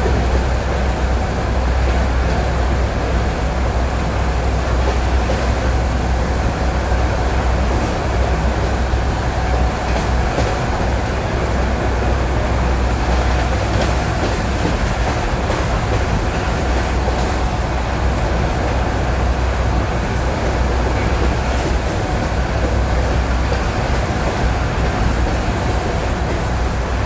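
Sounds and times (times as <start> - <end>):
train running gear rumble: 0.0 - 27.0.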